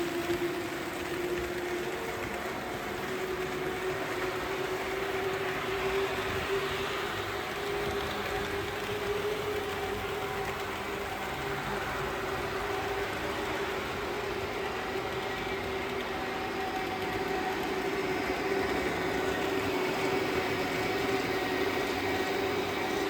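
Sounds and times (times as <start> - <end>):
model train motor hum: 0.0 - 23.0
wheel and track noise: 0.0 - 23.0.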